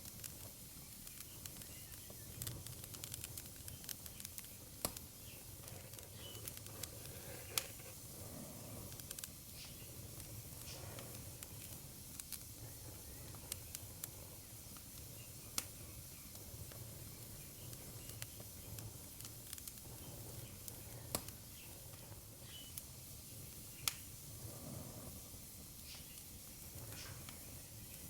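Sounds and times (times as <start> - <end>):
flames hissing and rumbling: 0.0 - 28.0
wood fire crackling: 0.0 - 28.0.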